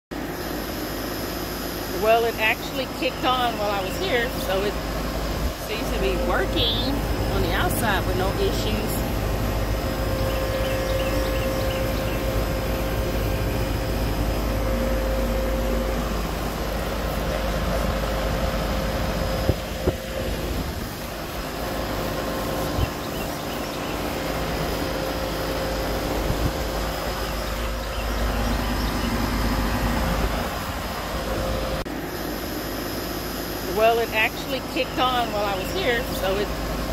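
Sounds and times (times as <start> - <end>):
air conditioner humming: 0.1 - 36.9.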